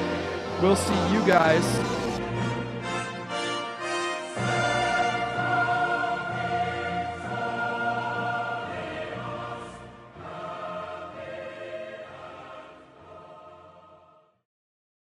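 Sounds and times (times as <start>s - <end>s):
music of long held chords: 0.0s - 14.0s.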